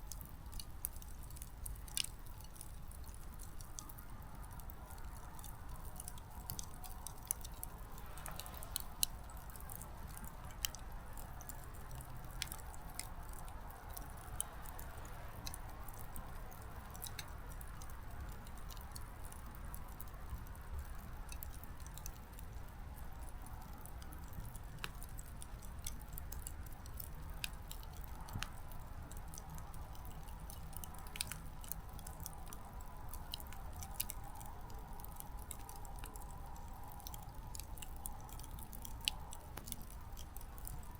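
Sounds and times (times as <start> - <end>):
firewood crackling and popping: 0.0 - 40.9
soft steady hiss: 0.0 - 40.9.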